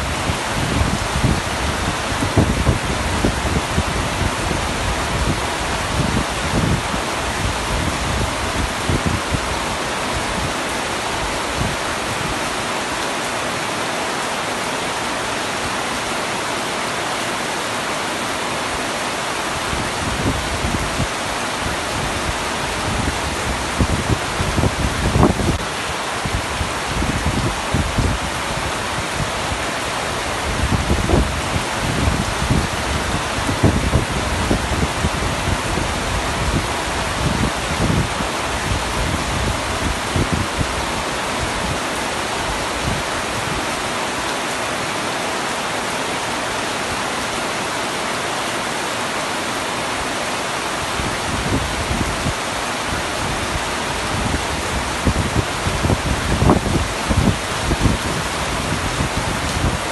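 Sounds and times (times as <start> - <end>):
heavy rain on tent roof: 0.0 - 59.9.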